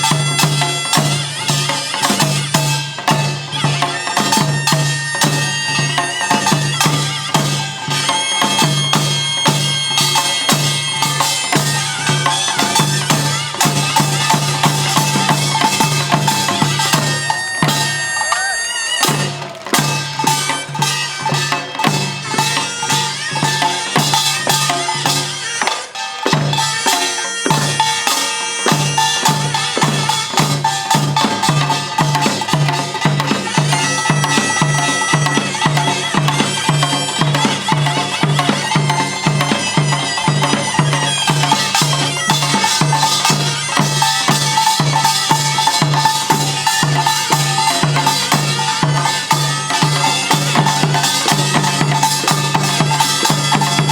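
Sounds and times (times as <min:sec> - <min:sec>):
drums pounding: 0:00.0 - 0:53.9
reedy shawm melody: 0:00.0 - 0:53.9
small gongs clanging: 0:00.0 - 0:53.9.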